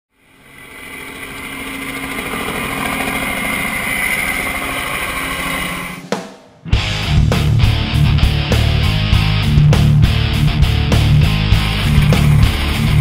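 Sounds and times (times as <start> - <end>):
helicopter running: 0.1 - 13.0.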